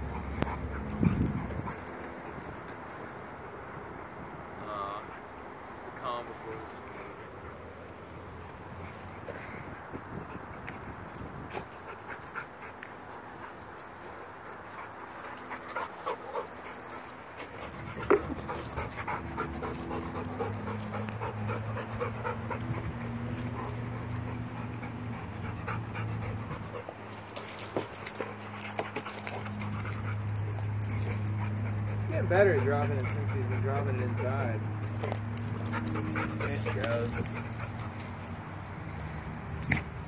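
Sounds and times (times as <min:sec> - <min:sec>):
dog sniffing and breathing: 0:00.0 - 0:04.1, 0:05.0 - 0:40.0.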